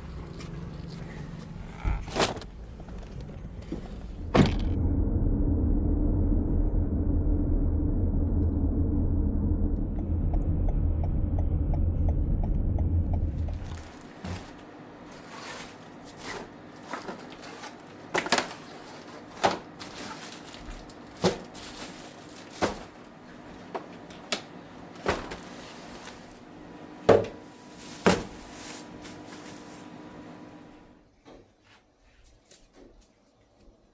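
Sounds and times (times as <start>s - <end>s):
faint steady hum: 0.0s - 31.1s.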